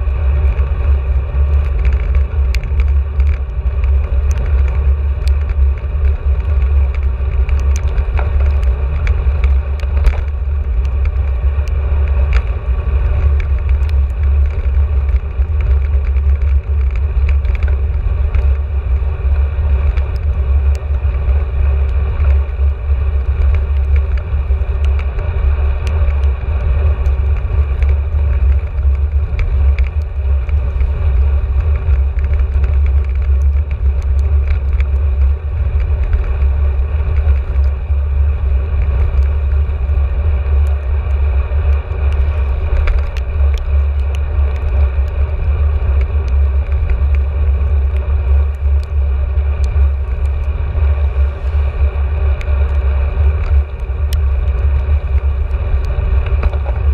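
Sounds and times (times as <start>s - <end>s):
tyre and road noise: 0.0s - 56.9s
wind rumble on microphone: 0.0s - 56.9s
faint ticks: 0.4s - 56.9s.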